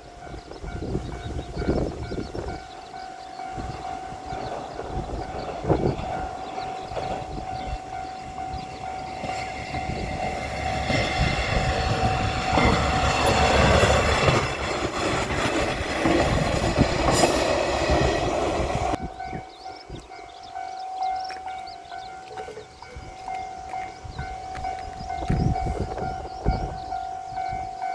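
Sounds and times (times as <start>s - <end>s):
diesel railcar engine and wheels: 0.0s - 27.9s.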